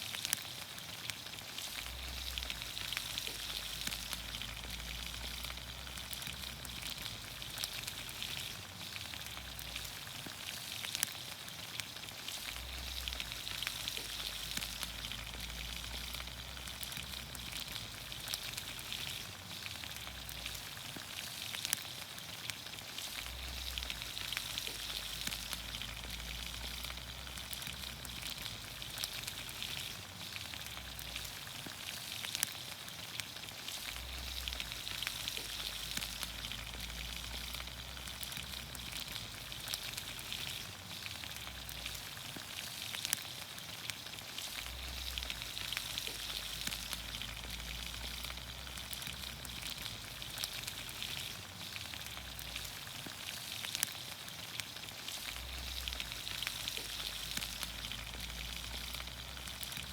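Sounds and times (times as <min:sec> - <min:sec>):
campfire crackling and popping: 0:00.0 - 0:59.9
vegetables sizzling in a pan: 0:00.0 - 0:59.9.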